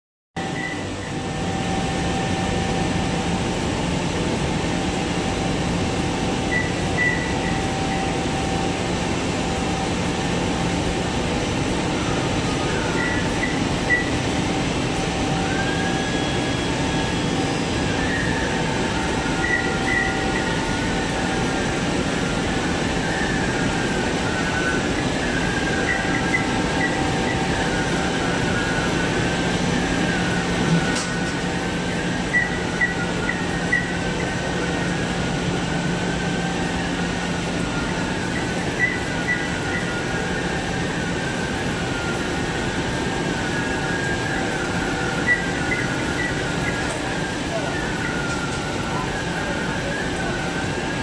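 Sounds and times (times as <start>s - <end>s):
printing press hum and whir: 0.4s - 51.0s
high wavering tones: 5.3s - 51.0s.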